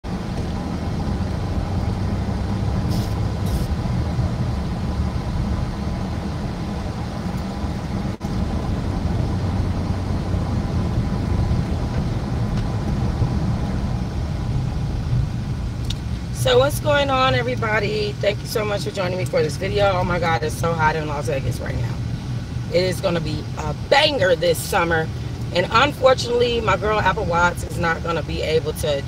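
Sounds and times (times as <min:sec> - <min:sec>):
car engine rumble inside cabin: 0:00.0 - 0:29.0.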